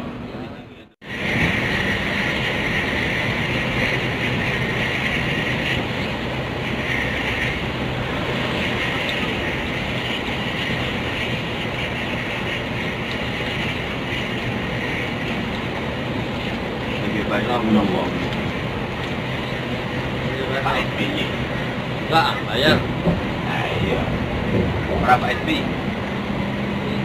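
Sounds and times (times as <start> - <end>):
bus engine and road noise: 0.0 - 27.0.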